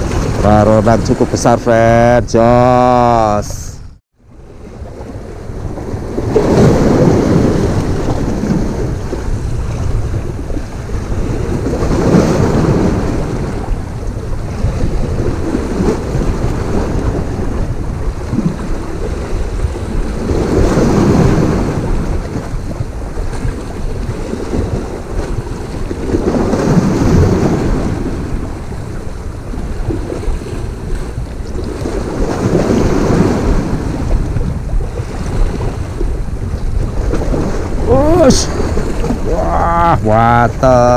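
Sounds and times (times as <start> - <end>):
wind buffeting microphone: 0.0 - 40.9
sea waves washing on rocks: 4.6 - 40.9.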